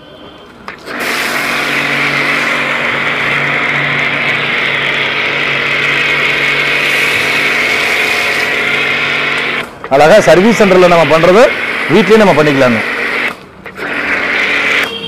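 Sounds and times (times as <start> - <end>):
motor and pump humming: 0.7 - 15.0.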